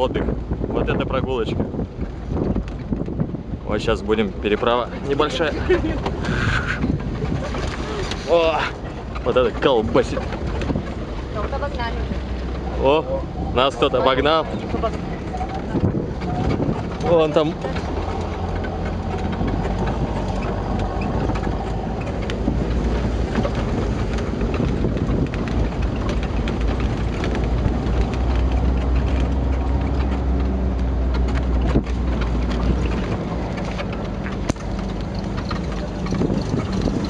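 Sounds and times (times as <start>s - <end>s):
off-road vehicle engine droning: 0.0s - 37.0s
vehicle body rattling: 0.0s - 37.0s.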